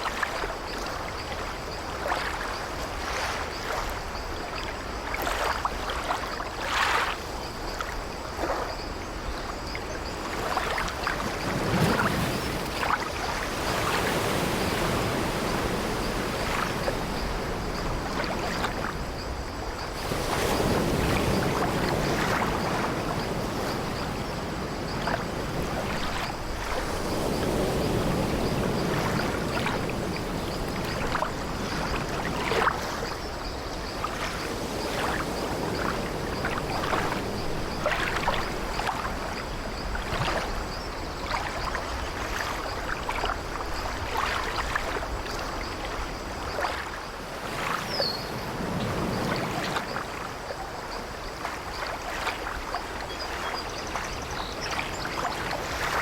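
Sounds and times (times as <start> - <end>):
sea waves washing against ship: 9.6 - 56.0.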